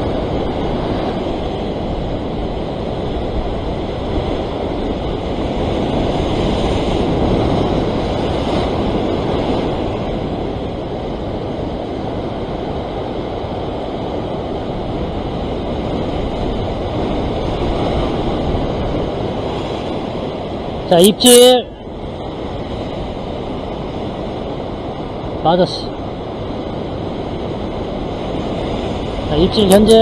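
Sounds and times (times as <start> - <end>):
ocean surf breaking over rocks: 0.0 - 30.0.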